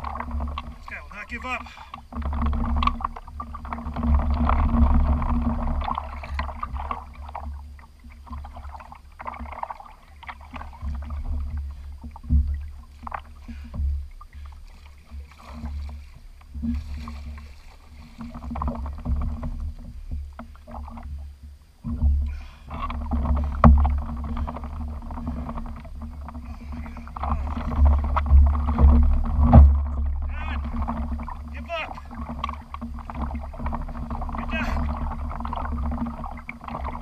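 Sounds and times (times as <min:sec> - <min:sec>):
water sloshing against kayak: 0:00.0 - 0:37.0.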